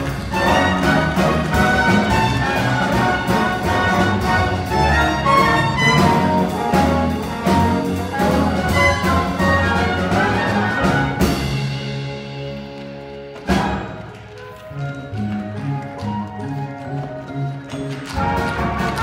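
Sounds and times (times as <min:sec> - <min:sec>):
orchestral music with brass: 0:00.0 - 0:19.0.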